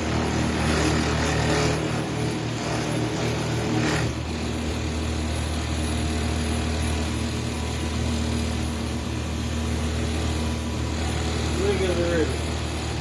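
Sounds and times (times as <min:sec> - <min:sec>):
tool cutting spinning wood: 0:00.0 - 0:13.0
wood lathe motor hum: 0:00.0 - 0:13.0.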